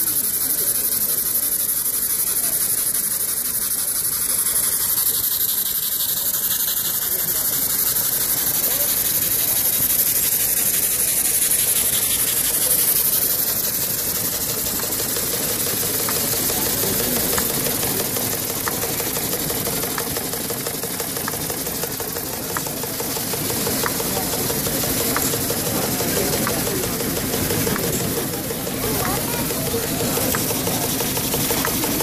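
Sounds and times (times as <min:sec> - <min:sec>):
model engines hissing: 0:00.0 - 0:32.0.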